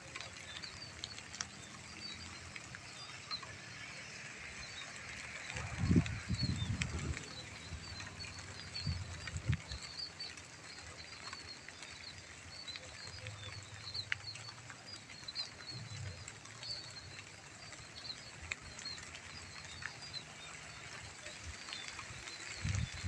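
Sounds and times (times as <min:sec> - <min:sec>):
raindrop ticks: 0:00.0 - 0:23.0.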